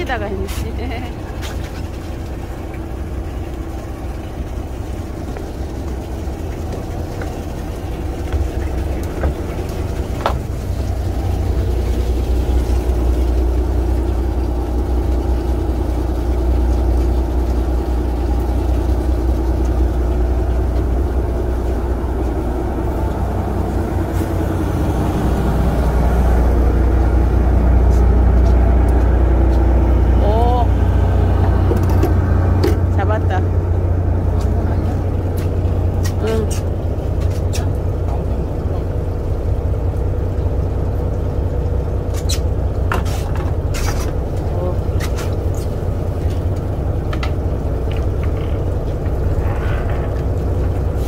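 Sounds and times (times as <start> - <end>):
boat engine low rumble: 0.0 - 51.0.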